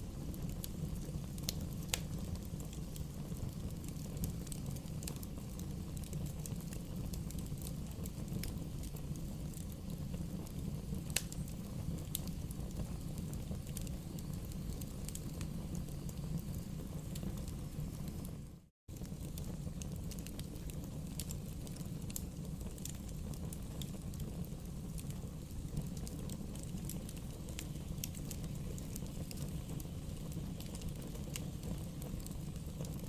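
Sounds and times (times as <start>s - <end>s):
bonfire flames rumbling: 0.0s - 33.0s
fire crackles and pops: 0.0s - 33.0s.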